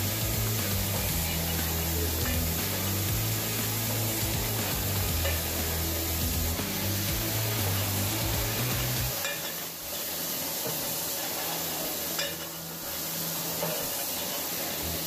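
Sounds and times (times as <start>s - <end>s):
bottling machinery hissing: 0.0s - 15.0s.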